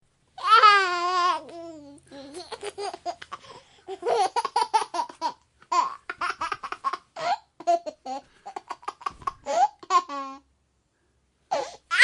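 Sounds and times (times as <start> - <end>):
baby giggling and laughing: 0.4 - 10.4.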